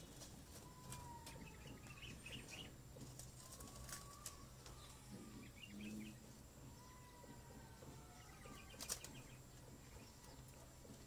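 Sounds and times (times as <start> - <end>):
faint bird chirps: 0.0 - 2.8, 3.4 - 10.8.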